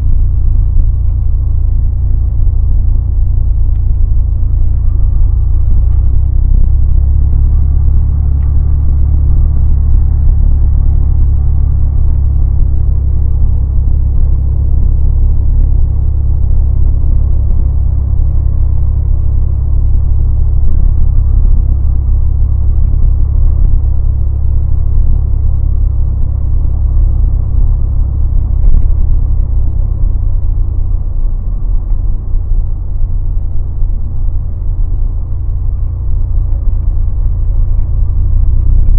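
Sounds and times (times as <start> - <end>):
pickup engine and road rumble: 0.0 - 38.9.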